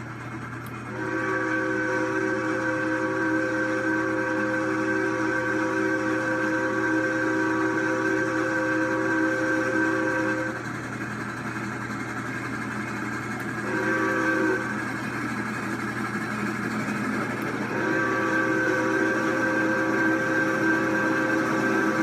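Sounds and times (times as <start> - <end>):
train rumble: 0.0 - 22.0
steam locomotive whistle: 0.9 - 11.6, 12.3 - 22.0.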